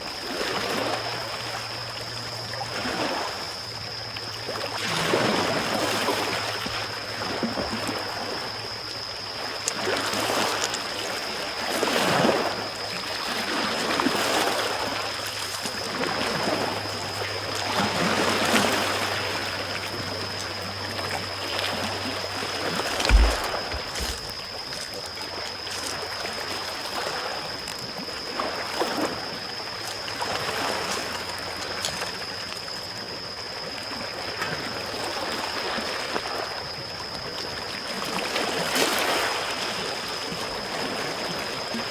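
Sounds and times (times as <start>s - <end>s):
small waves lapping on shore: 0.0s - 41.9s.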